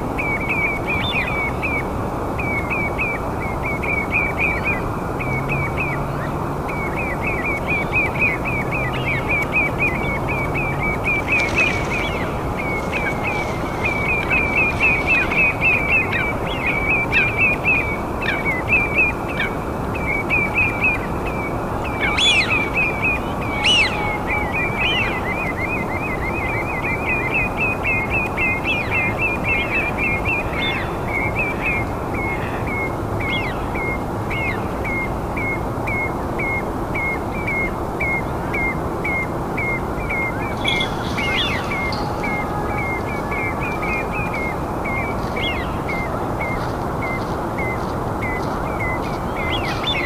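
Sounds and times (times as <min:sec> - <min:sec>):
sharp bird calls: 0:00.2 - 0:50.0
bird chirping: 0:02.4 - 0:50.0.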